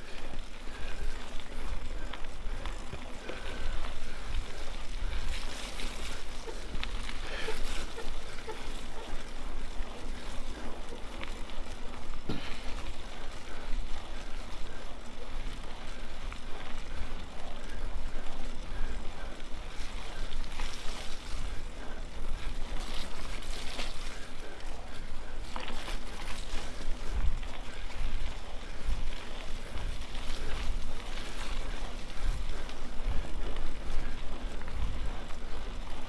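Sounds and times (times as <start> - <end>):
wind and riding rumble: 0.0 - 36.0.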